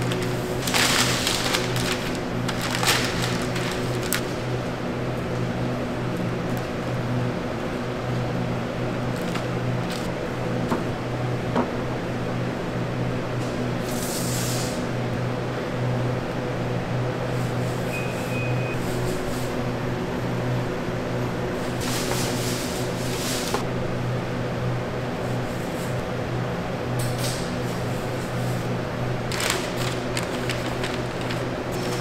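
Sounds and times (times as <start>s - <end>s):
machinery humming: 0.0s - 13.9s, 14.7s - 32.0s.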